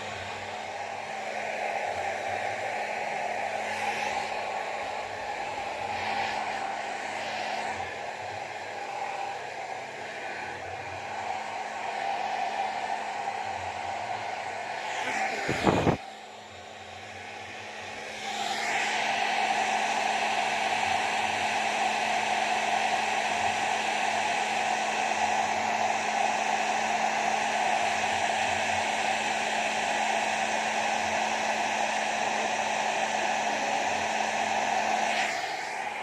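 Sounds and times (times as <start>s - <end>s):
hair dryer running: 0.0s - 36.0s.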